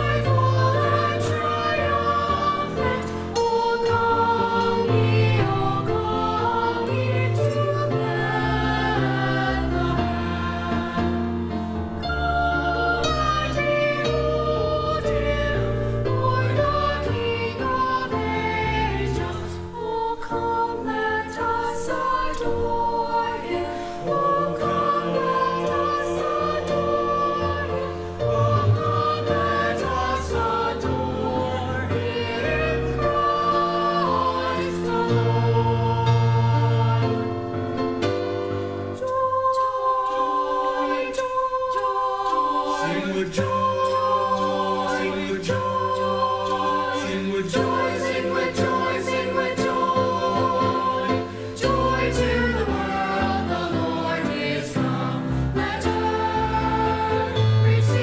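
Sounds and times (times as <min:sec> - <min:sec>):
choir singing a carol: 0:00.0 - 0:58.0.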